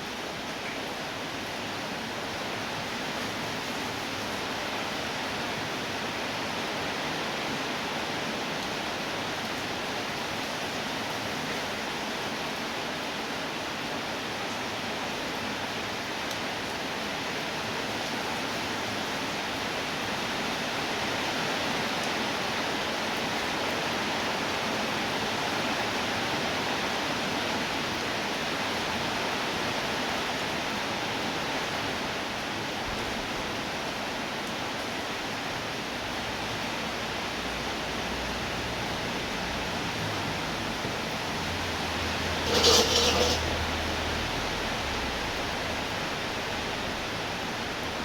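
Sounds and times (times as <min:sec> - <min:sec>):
steady rainfall: 0:00.0 - 0:48.0.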